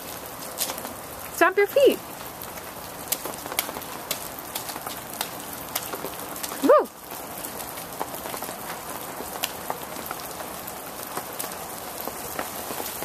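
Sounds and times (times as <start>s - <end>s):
raindrops ticking near microphone: 0.0s - 13.0s
steady rain hiss: 0.0s - 13.0s.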